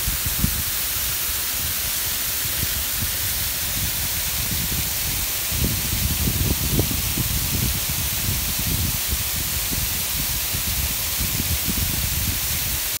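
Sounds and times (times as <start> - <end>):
waterfall hiss of falling water: 0.0 - 13.0.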